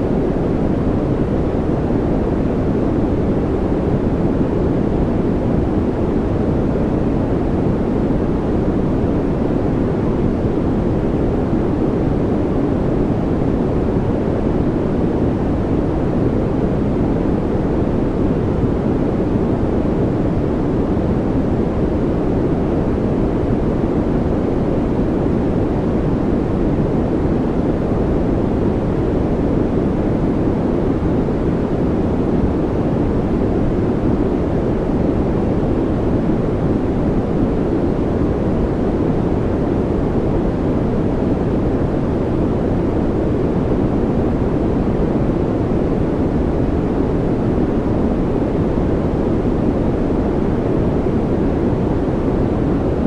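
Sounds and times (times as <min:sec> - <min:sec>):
deep white noise: 0:00.0 - 0:53.0.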